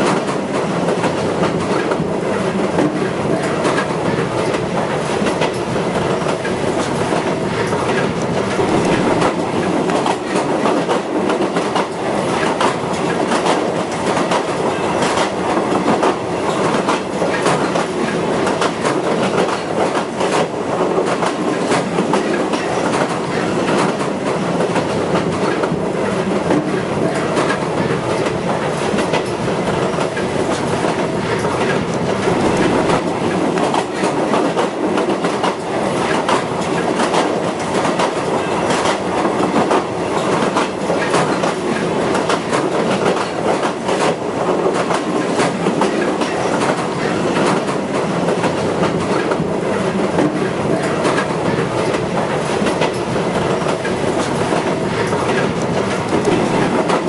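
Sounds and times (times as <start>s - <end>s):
train clicks and rattles: 0.0s - 57.0s
train wheels rumbling on track: 0.0s - 57.0s.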